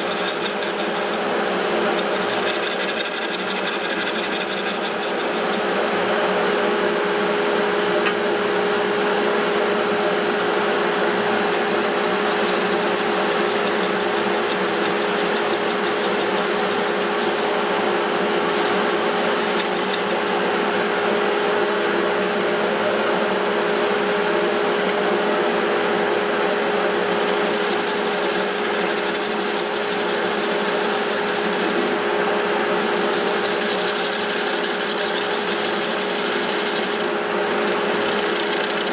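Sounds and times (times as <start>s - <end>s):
wood lathe motor hum: 0.0s - 38.9s.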